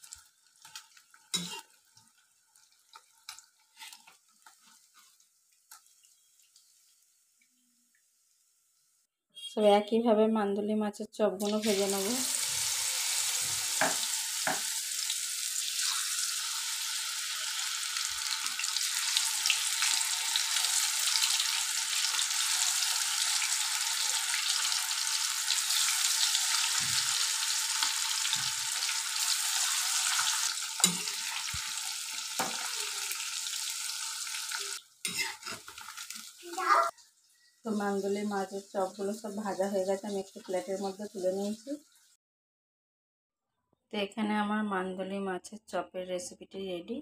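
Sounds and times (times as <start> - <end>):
fish deep-frying in hot oil: 0.0 - 9.0, 11.4 - 42.2.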